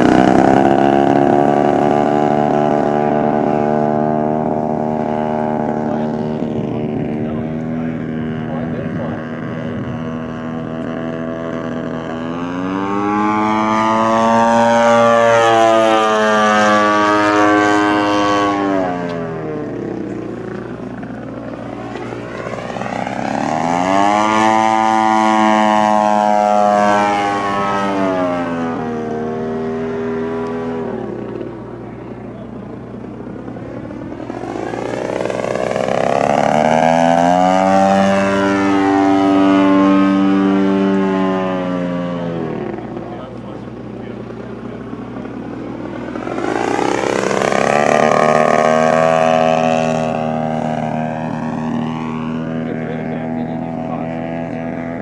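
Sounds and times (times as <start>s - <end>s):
model plane engine flying past: 0.0s - 55.0s.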